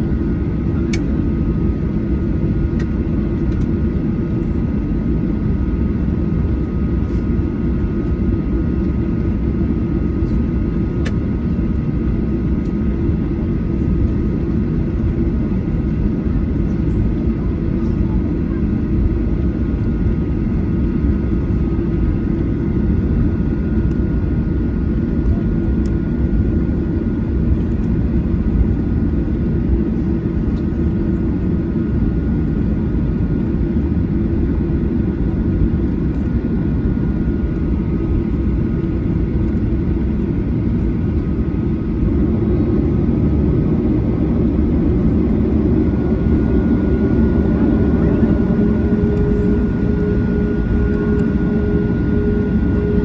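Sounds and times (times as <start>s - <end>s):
jet engines roaring in cabin: 0.0s - 53.0s.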